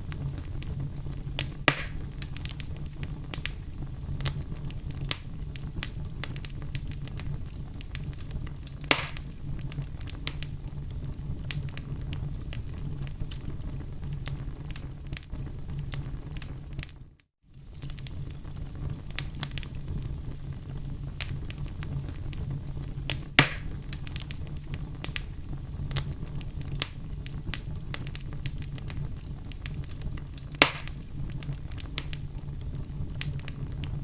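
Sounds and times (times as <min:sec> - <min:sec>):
sharp fire pops: 0:00.0 - 0:34.0
wood fire crackling: 0:00.0 - 0:34.0.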